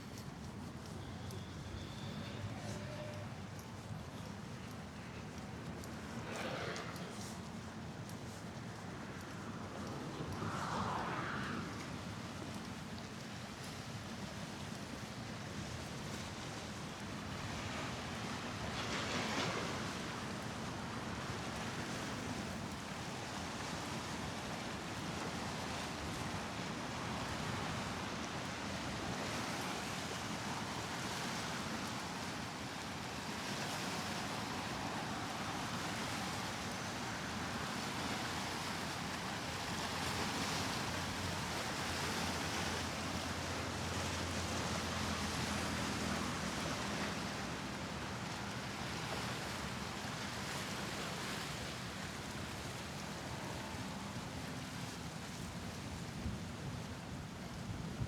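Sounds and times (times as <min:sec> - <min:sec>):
rushing waterfront noise: 0:00.0 - 0:58.0.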